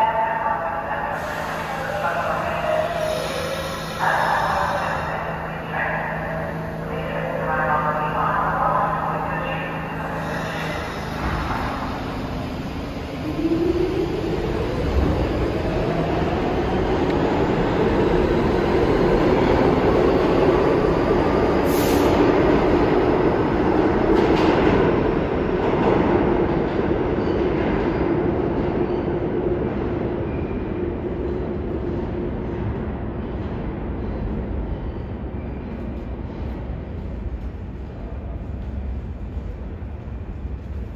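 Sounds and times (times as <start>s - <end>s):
subway train rail and wheel rumble: 0.0s - 40.9s.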